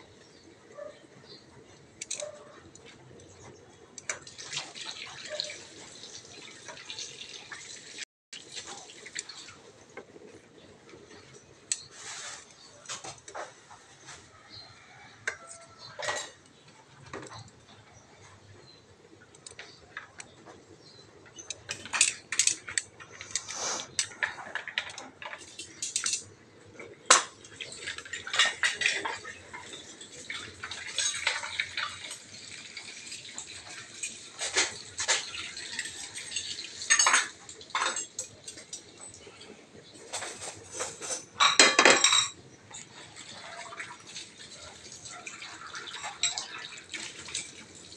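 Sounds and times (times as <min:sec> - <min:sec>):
utensils clinking and scraping plate: 0:00.2 - 0:05.5, 0:10.2 - 0:18.8, 0:19.4 - 0:47.9.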